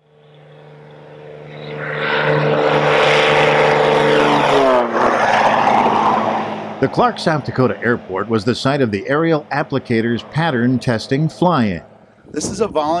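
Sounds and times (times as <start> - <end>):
spray plane engine and propeller drone: 0.0 - 13.0.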